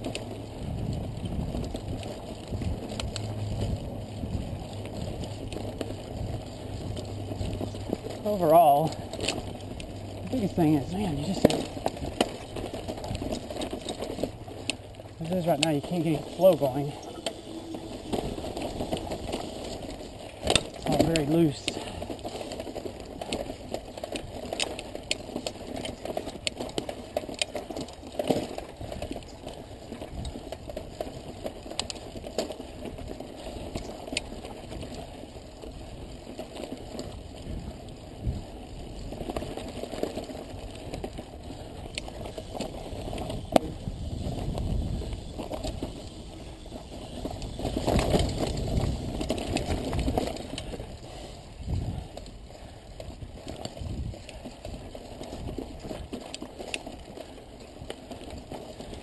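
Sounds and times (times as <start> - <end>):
bike rattling: 0.0 - 59.0
bike tires crunching on rock: 0.0 - 59.0.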